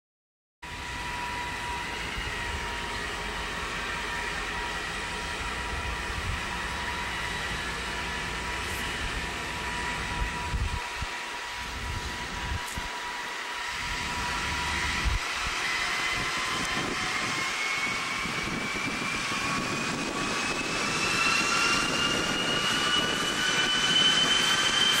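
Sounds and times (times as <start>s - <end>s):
diesel locomotive running: 0.6s - 25.0s
steady high whine: 0.6s - 25.0s
train wheels rumbling on track: 0.6s - 25.0s.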